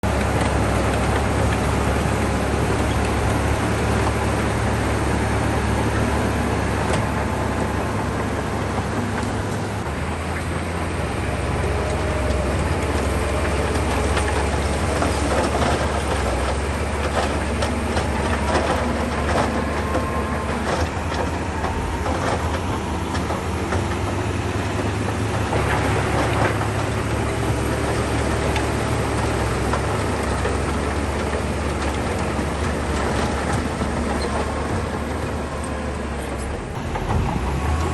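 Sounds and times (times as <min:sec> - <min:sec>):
diesel engine humming: 0:00.0 - 0:37.9
tracks and stones clanking: 0:00.0 - 0:37.9.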